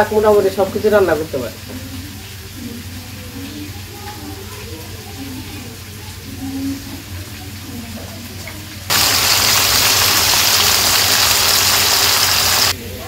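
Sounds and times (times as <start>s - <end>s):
curry sizzling loudly in wok: 0.0s - 13.0s.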